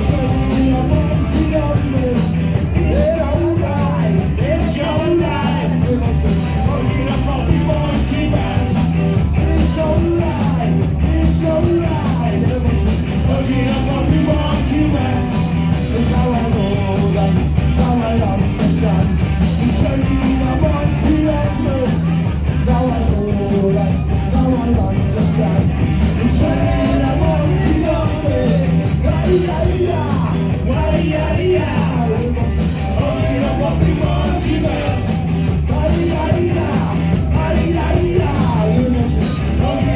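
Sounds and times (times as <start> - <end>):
live rock band: 0.0 - 39.9
person singing: 0.0 - 39.9.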